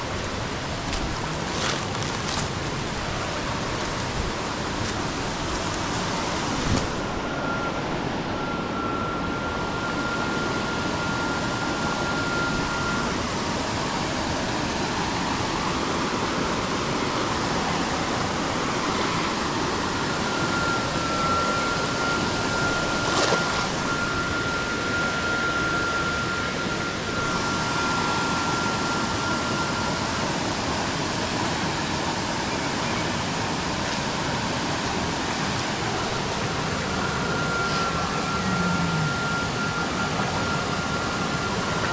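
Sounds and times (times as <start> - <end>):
stream water rushing: 0.0 - 41.9
thin high tone: 3.0 - 16.5, 17.3 - 41.9.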